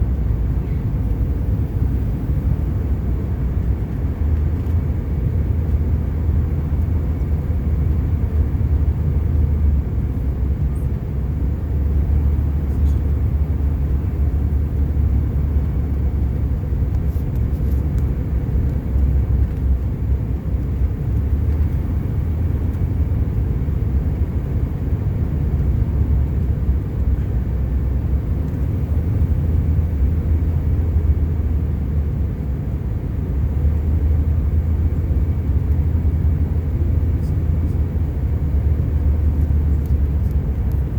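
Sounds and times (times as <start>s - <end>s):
jet cabin engine rumble: 0.0s - 40.9s.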